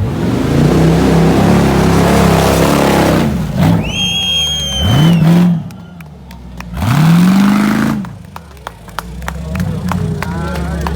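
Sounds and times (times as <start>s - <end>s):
vehicle engine revving: 0.0s - 10.9s.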